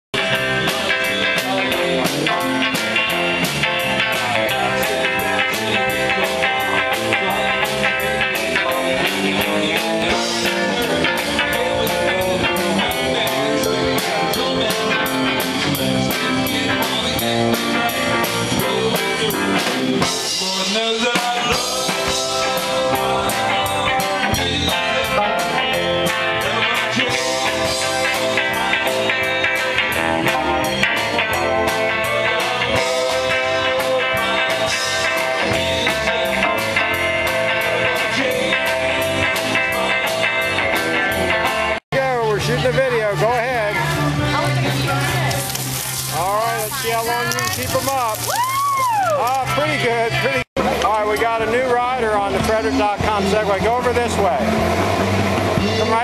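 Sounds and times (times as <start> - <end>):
bass guitar: 0.1 - 56.0
drum kit: 0.2 - 56.0
electric guitar: 0.2 - 56.0
keyboard: 0.2 - 56.0.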